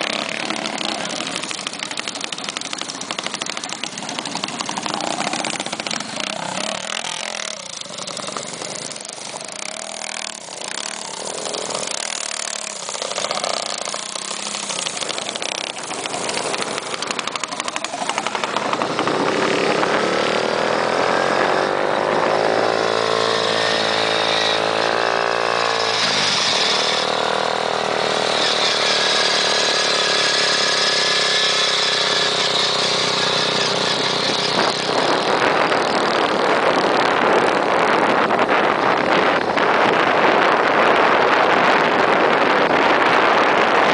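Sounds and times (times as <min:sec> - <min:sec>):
small bicycle engine running: 0:00.0 - 0:43.9
wind on microphone: 0:03.5 - 0:43.9.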